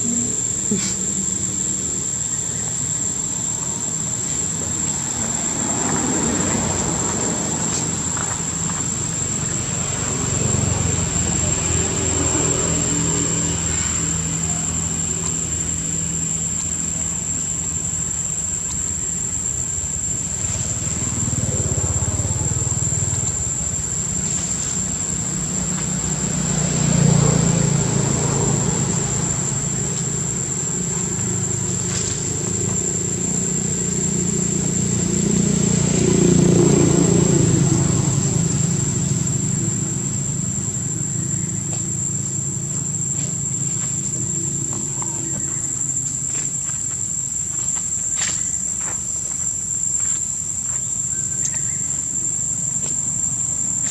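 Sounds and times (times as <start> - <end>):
high-pitched insect drone: 0.0 - 53.9
motor vehicles passing: 0.0 - 53.9.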